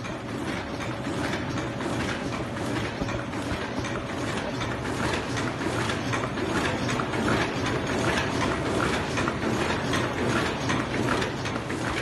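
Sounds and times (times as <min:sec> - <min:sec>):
machine clattering: 0:00.0 - 0:12.0.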